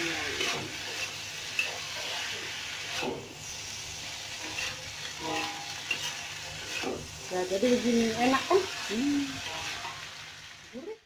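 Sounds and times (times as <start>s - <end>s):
spatula scraping a wok: 0.0s - 10.6s
food sizzling: 0.0s - 11.0s.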